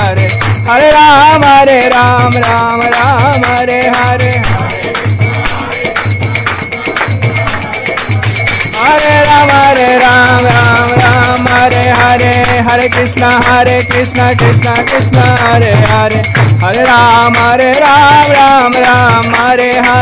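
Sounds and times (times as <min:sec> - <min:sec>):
drum beat: 0:00.0 - 0:20.0
small hand cymbals jingling: 0:00.0 - 0:20.0.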